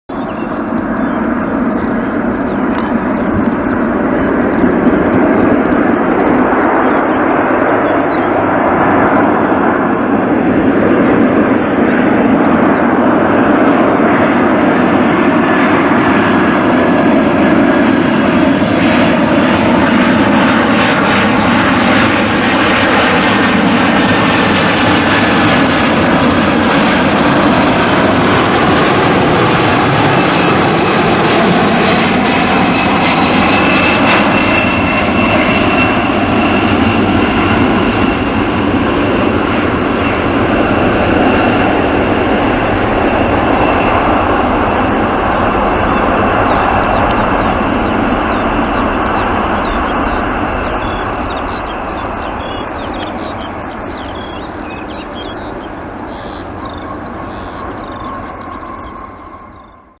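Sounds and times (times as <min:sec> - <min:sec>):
jet engines rushing: 0:00.1 - 1:00.0.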